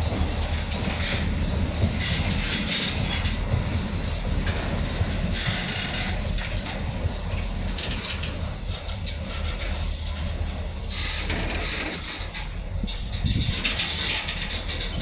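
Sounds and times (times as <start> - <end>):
wheels clicking over rail joints: 0.0 - 15.0
wheels rumbling on rail: 0.0 - 15.0.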